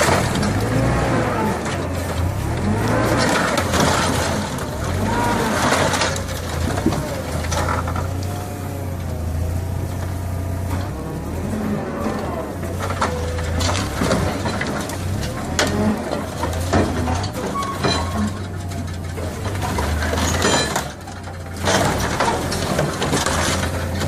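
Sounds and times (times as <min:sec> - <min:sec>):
heavy machine engine humming: 0:00.0 - 0:24.0.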